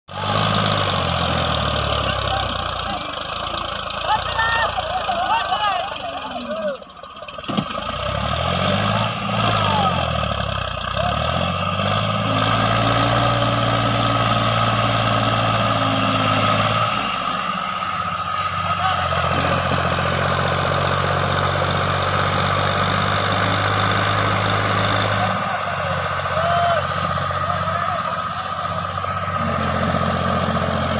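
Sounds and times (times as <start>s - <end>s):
tractor diesel engine straining: 0.1s - 30.9s.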